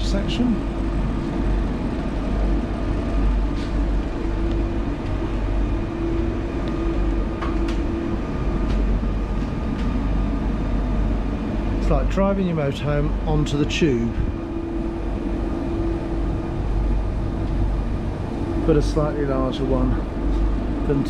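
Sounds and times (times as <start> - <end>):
train carriage rumble and hum: 0.0 - 21.0.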